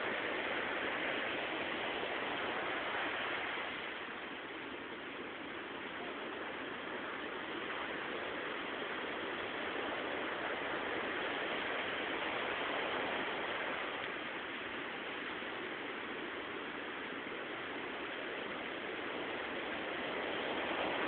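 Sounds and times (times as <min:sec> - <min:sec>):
sea waves washing onto shore: 0:00.0 - 0:21.0.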